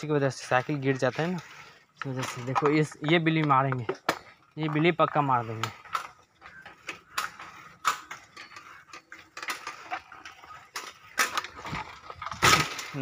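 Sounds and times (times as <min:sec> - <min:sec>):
bicycle rattling and clicking: 0:00.0 - 0:13.0.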